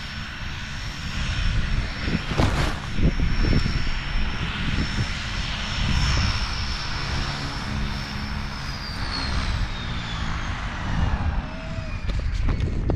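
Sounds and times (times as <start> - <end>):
propeller aircraft engine droning: 0.0 - 12.9.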